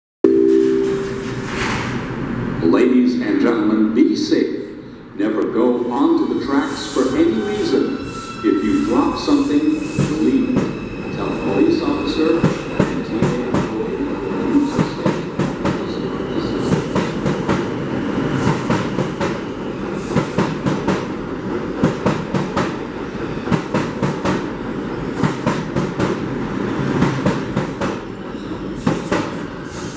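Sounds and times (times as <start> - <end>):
subway train wheels rumbling: 0.3 - 29.9.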